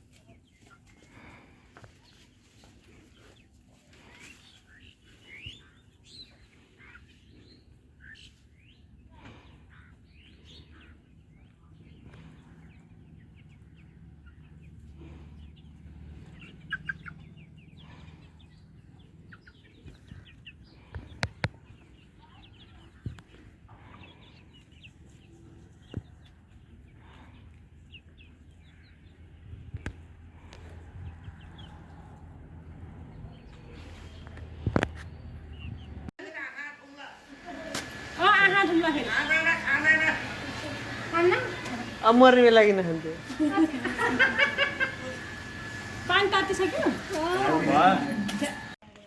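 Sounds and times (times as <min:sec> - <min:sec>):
chickens clucking: 0:00.0 - 0:36.1, 0:37.5 - 0:48.8.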